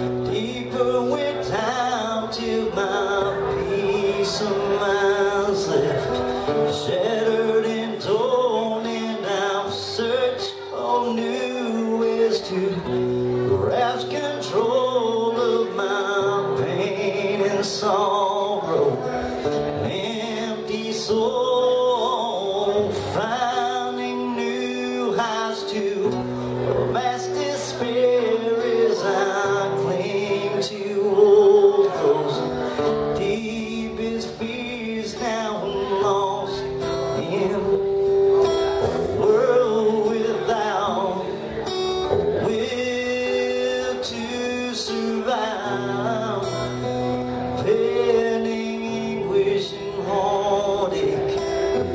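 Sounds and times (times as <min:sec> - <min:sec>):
acoustic guitar strumming: 0:00.0 - 0:51.9
man singing: 0:00.0 - 0:51.9.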